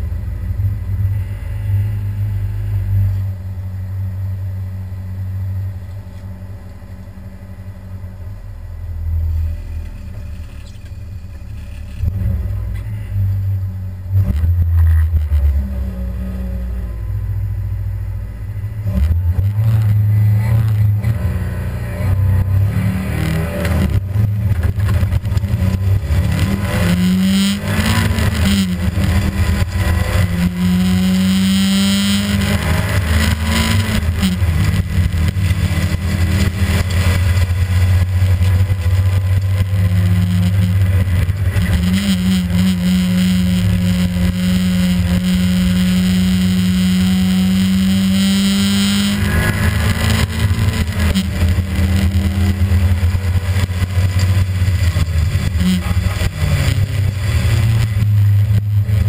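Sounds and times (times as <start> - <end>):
rally car engine revving: 0.0 - 5.0, 9.0 - 59.0.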